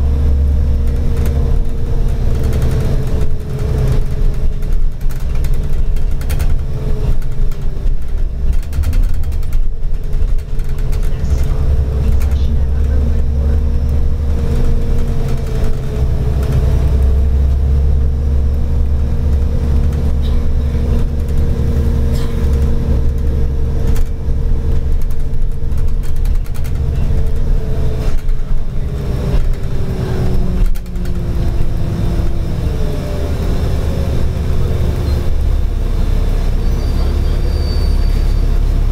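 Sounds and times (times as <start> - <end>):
bus engine rumble: 0.0 - 38.9
rattles and knocks from bus body: 0.1 - 32.6.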